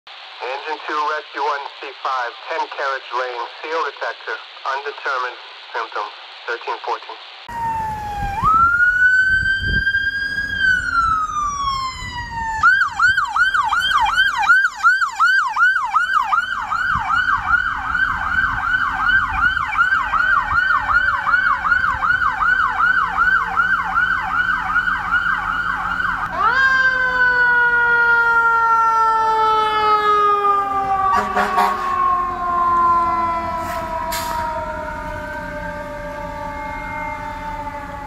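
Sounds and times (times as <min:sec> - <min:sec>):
electronic siren wailing: 0:07.5 - 0:38.0.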